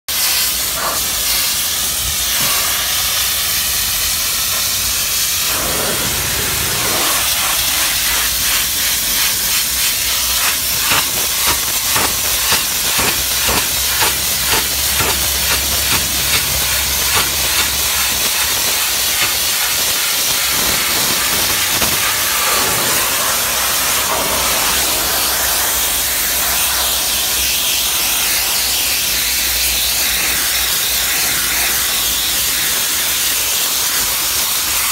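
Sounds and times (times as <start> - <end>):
steam cleaner hissing: 0.1 - 34.9.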